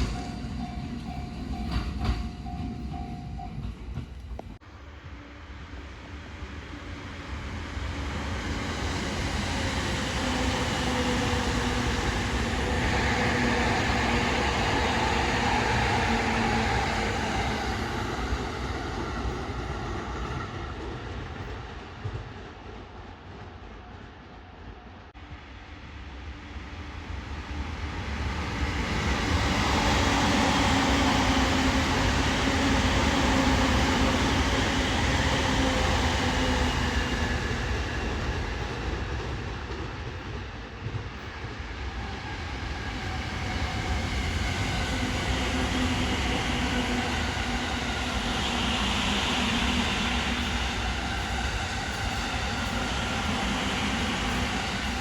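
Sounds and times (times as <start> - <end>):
electric trains passing: 0.0 - 55.0.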